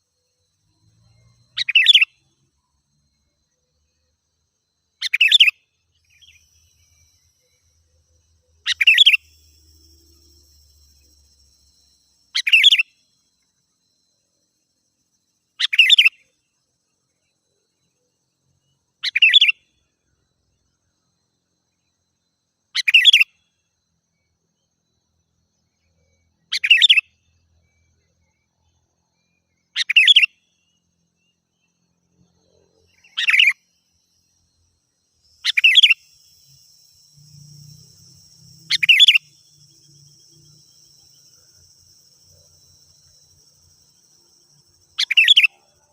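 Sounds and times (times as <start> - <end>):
high insect trill: 0.0 - 45.9.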